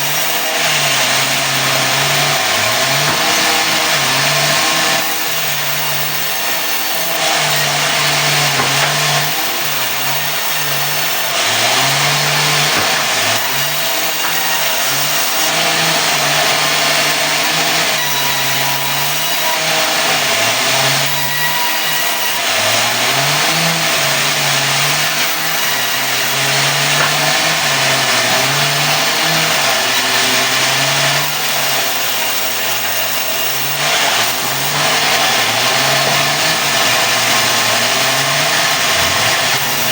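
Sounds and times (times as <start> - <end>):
sawmill sawing log: 0.0 - 39.9.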